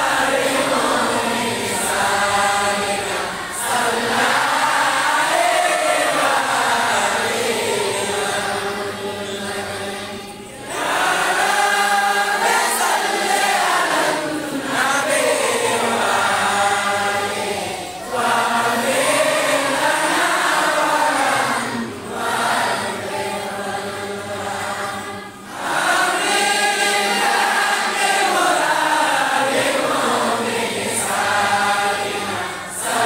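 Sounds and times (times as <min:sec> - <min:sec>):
men chanting: 0:00.0 - 0:33.0.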